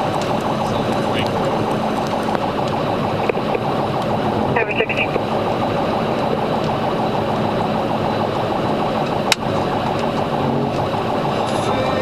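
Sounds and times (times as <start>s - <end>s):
car engine tyre and wind noise: 0.0s - 12.0s.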